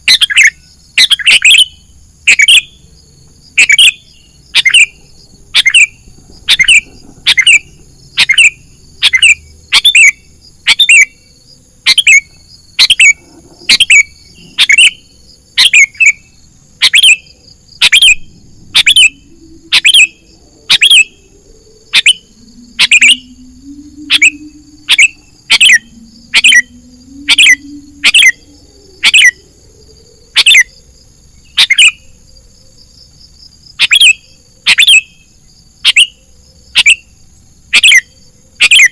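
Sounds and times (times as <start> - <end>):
sharp repeated bird call: 0.0 - 2.8, 3.6 - 21.3, 21.9 - 29.4, 30.4 - 30.7, 31.5 - 32.0, 33.8 - 35.2, 35.8 - 36.2, 36.8 - 37.1, 37.7 - 38.9.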